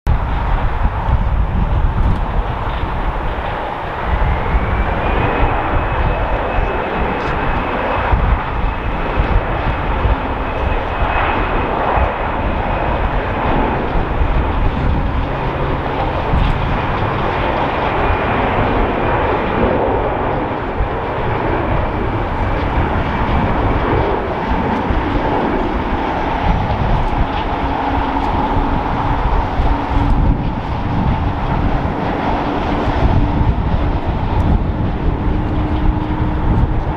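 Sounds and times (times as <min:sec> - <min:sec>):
jet engines at takeoff: 0:00.1 - 0:36.9.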